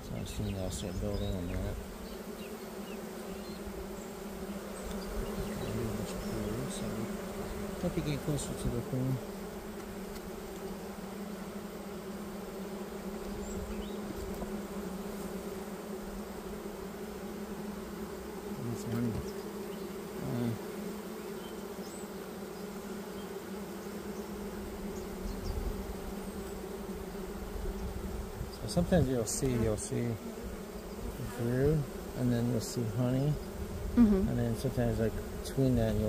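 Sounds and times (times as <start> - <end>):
honeybees buzzing: 0.0 - 36.0.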